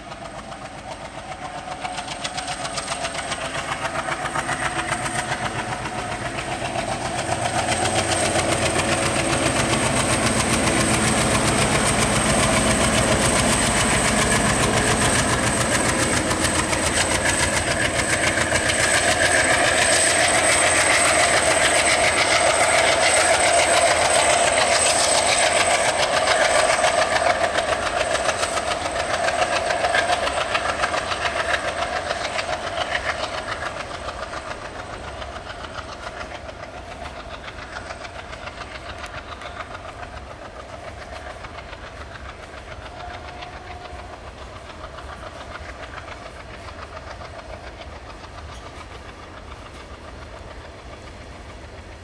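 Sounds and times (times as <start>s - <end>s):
diesel locomotive chugging: 0.0s - 52.0s.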